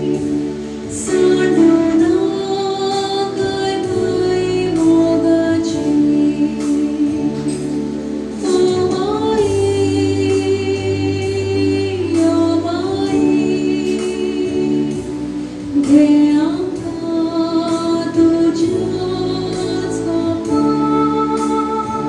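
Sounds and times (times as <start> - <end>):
slow music with singing: 0.0 - 22.0.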